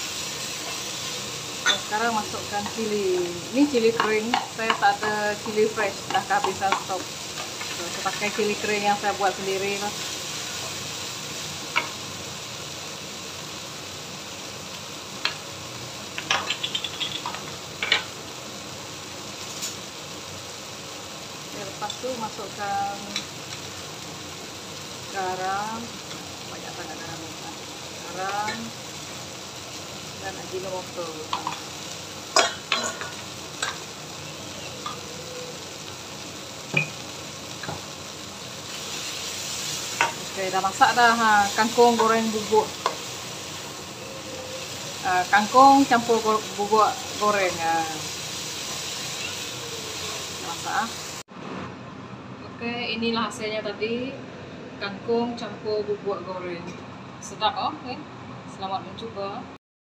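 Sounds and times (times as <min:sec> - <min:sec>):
vegetables sizzling in a wok: 0:00.0 - 0:51.7.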